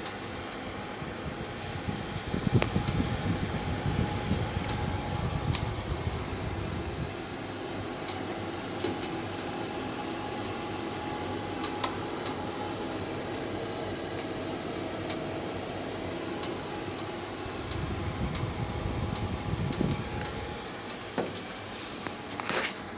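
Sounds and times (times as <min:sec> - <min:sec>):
fireplace fans humming: 0:00.0 - 0:22.9.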